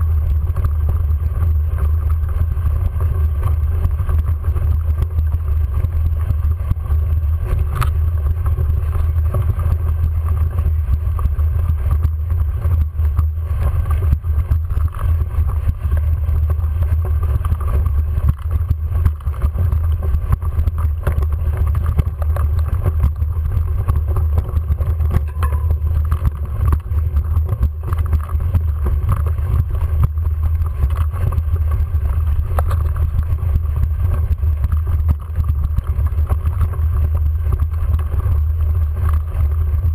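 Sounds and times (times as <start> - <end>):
bicycle clicks and rattles: 0.0 - 39.9
faint drone: 0.0 - 39.9
low rumble of riding bicycle: 0.0 - 39.9.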